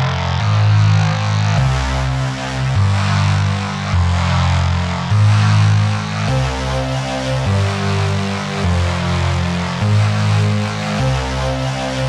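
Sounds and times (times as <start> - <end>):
electronic music with held bass: 0.0 - 12.0.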